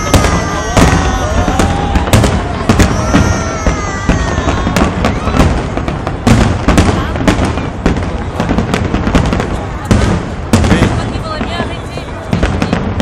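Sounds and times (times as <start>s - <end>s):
fireworks bangs: 0.0s - 13.0s
fireworks whistling: 0.0s - 13.0s.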